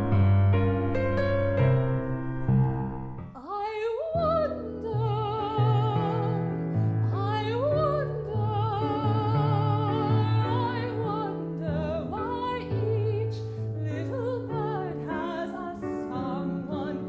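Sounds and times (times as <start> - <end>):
piano chords: 0.0 - 17.0
soprano singing wordless line: 3.3 - 17.0.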